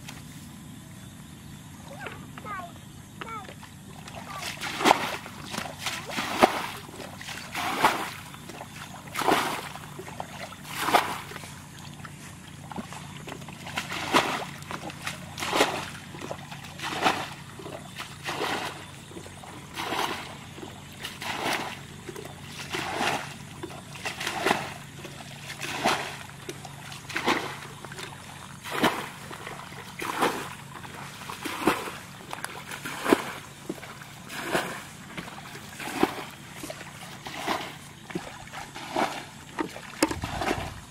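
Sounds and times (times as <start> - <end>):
bucket splashing water: 3.4 - 40.9.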